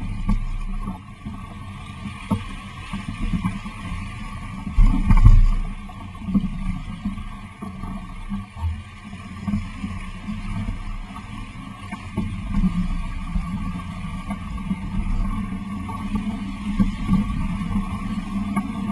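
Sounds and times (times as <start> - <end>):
water rushing along boat hull: 0.0 - 18.9.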